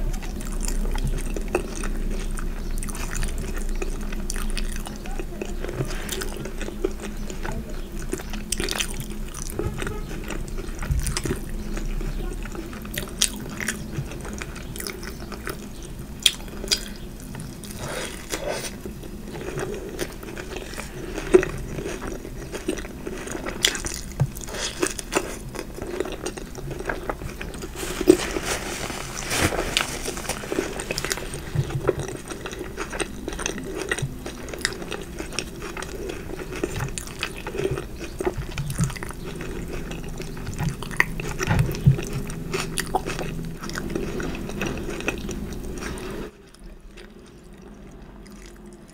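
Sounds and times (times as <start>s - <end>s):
chewing crunchy fried food: 0.0s - 48.9s.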